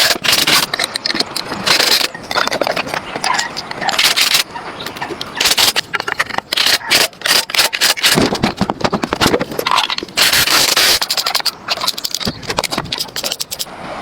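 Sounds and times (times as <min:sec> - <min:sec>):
rubbing and scraping on a surface: 0:00.0 - 0:13.7.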